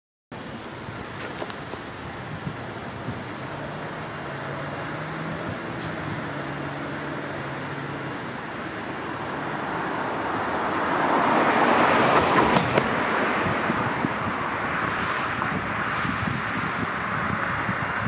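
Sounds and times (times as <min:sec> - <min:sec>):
car passing: 0:00.5 - 0:18.0.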